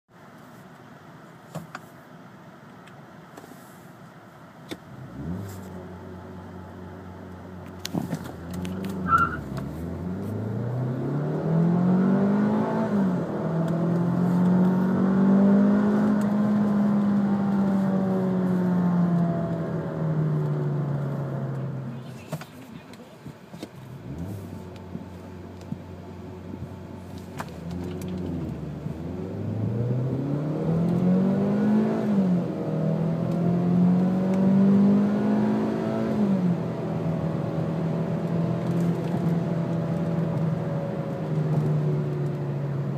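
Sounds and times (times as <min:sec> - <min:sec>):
car engine revving: 0:04.7 - 0:23.0, 0:23.8 - 0:42.9.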